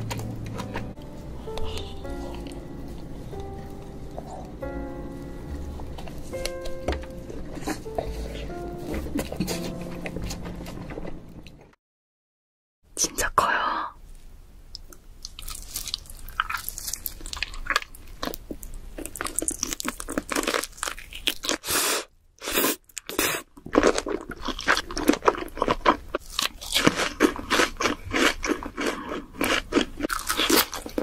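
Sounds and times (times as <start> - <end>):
person chewing with mouth smacks: 0.1 - 4.8, 6.0 - 11.2, 14.7 - 31.0.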